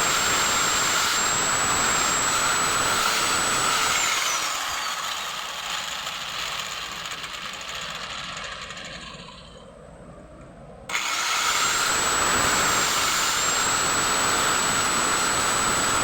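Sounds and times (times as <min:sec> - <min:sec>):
power tool motor whining: 0:00.0 - 0:09.6, 0:10.9 - 0:16.0.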